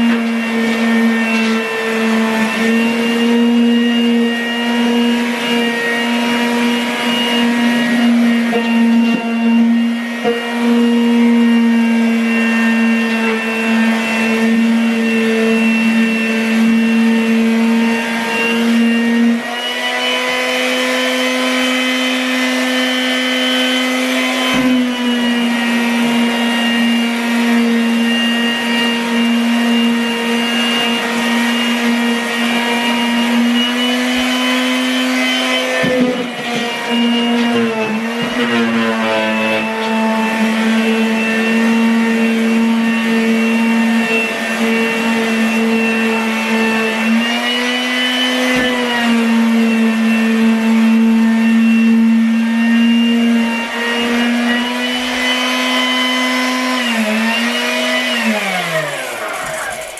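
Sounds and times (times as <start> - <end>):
electric sander whining and grinding: 0.0 - 59.9.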